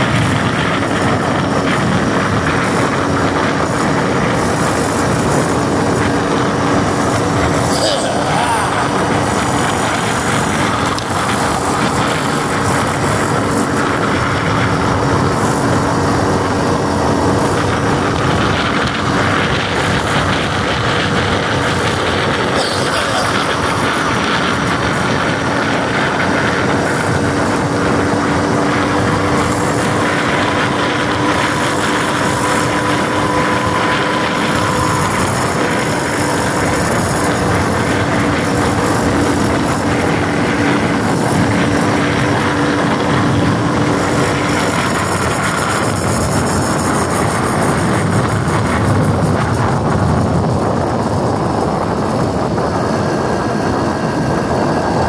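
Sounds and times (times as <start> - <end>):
small engine running steadily: 0.0 - 55.0
wind and road noise: 0.0 - 55.0.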